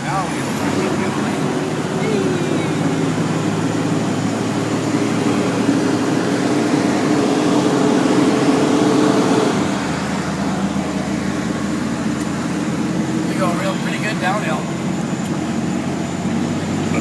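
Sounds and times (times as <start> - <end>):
truck engine running under load: 0.0 - 17.0.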